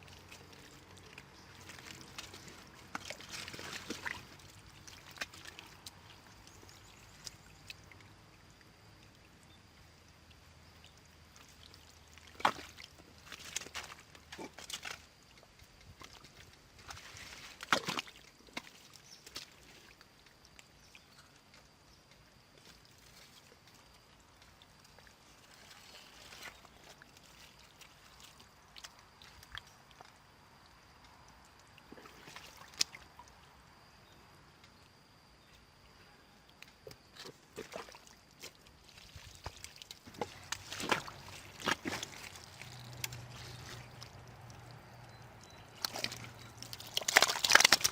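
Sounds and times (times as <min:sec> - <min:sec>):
water sloshing and splashing: 0:00.0 - 0:21.8, 0:22.5 - 0:33.5, 0:36.7 - 0:47.9.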